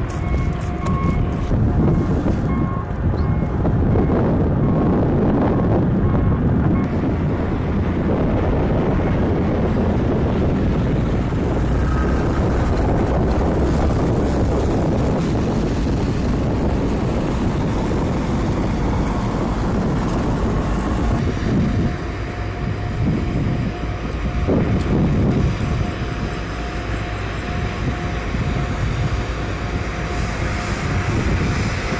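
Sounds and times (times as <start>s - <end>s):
truck engine rumble: 0.0s - 31.9s.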